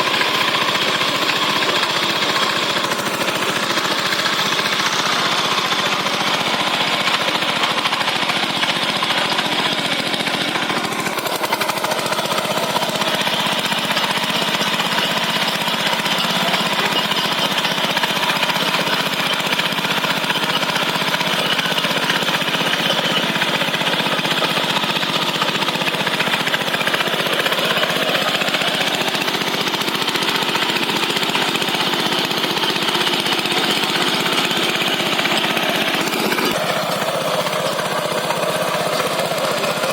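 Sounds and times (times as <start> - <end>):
engine chugging: 0.0 - 39.9.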